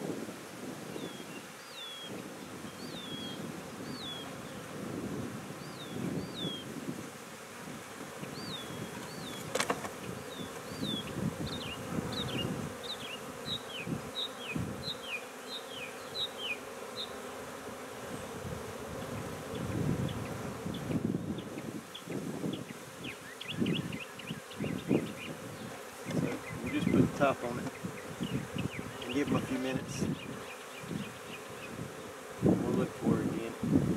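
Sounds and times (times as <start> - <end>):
bees buzzing: 0.0 - 33.9.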